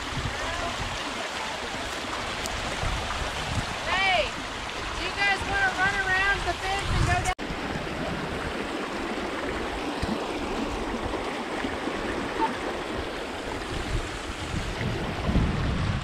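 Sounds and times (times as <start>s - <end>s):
water rushing through channel: 0.0s - 16.0s.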